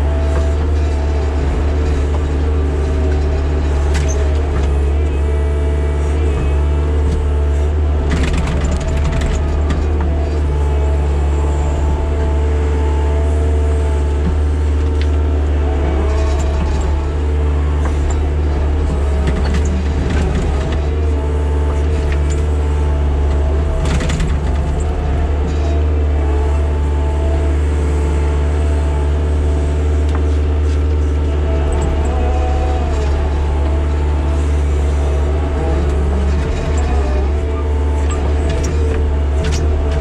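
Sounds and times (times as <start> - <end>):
earth-moving machine engine running: 0.0 - 40.0.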